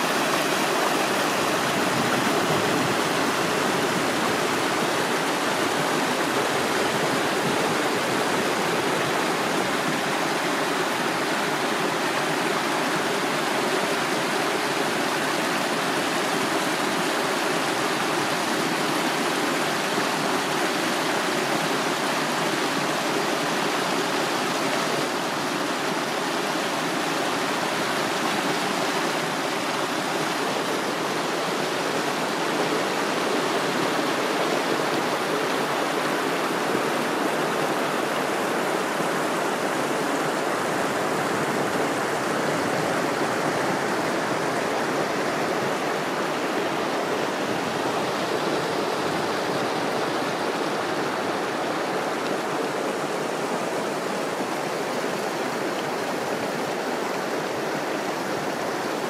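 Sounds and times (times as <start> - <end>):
rushing mountain stream: 0.0 - 59.0.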